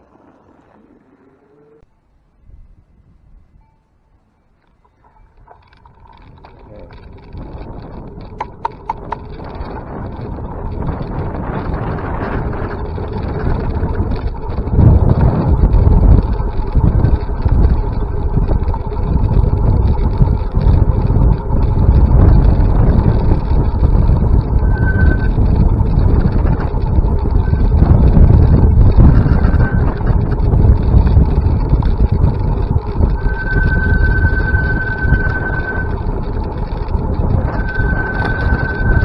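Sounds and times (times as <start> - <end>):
wind buffeting microphone: 4.8 - 39.0
rushing road noise: 5.4 - 39.0.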